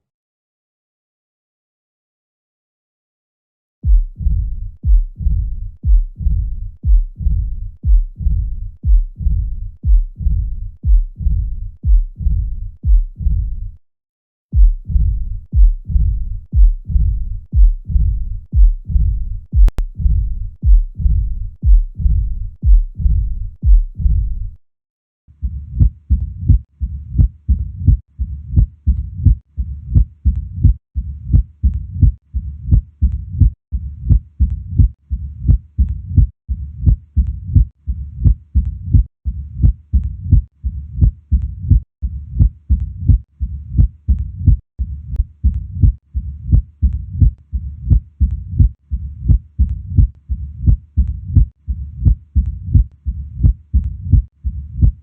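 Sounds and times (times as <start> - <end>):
heartbeat: 3.8 - 13.8, 14.5 - 24.6, 25.4 - 55.0.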